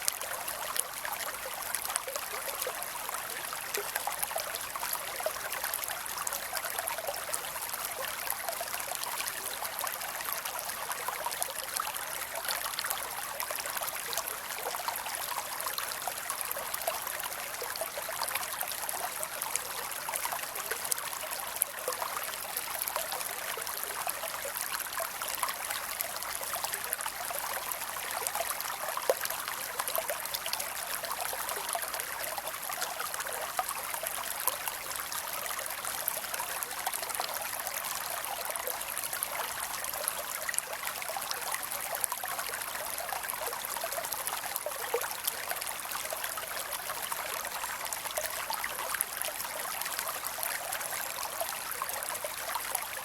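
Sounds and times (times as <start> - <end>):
creek water over rocks: 0.0 - 53.0.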